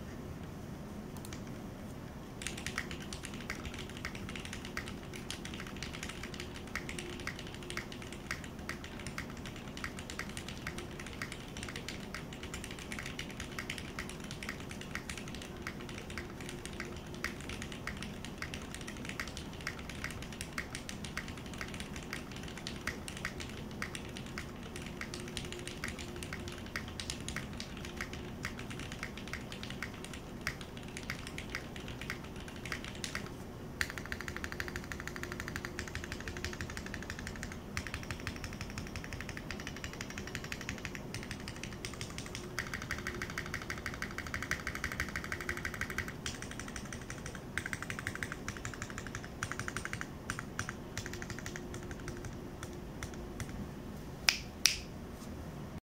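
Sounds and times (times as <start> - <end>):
mechanical keyboard typing: 2.4 - 53.6.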